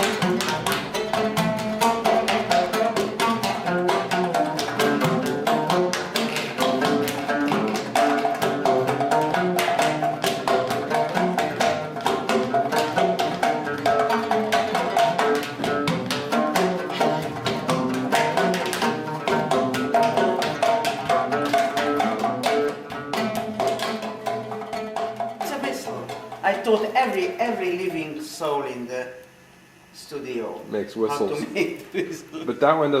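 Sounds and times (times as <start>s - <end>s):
instrumental music with fast percussion: 0.0s - 28.2s.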